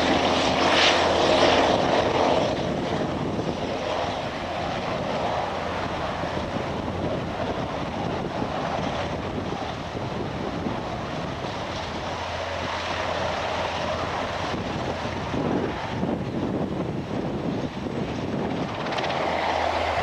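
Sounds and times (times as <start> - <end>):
helicopter rotor and turbine: 0.0 - 20.0
wind buffeting microphone: 0.0 - 20.0.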